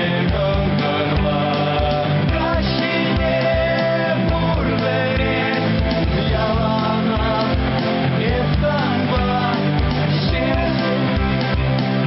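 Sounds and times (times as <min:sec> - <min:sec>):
rock song: 0:00.0 - 0:12.0
steady drum beat: 0:00.0 - 0:12.0.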